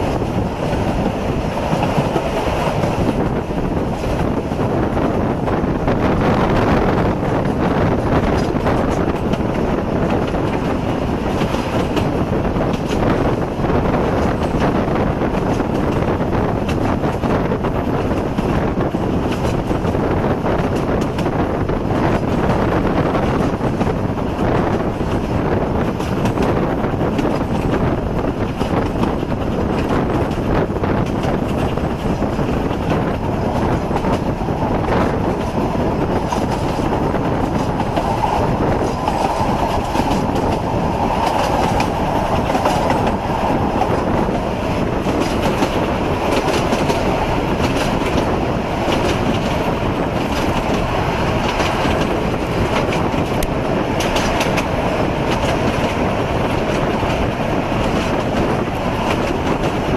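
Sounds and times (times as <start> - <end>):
train wheels clicking over rail joints: 0.0 - 59.9.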